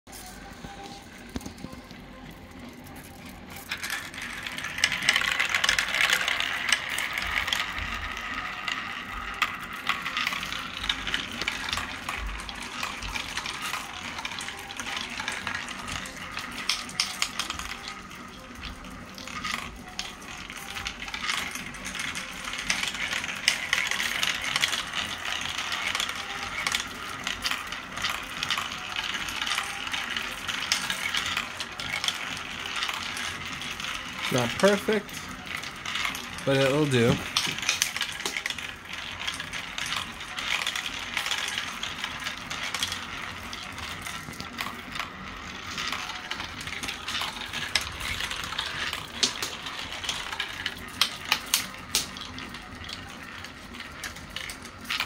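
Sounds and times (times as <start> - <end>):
marbles rattling down plastic tracks: 0.1 - 55.0.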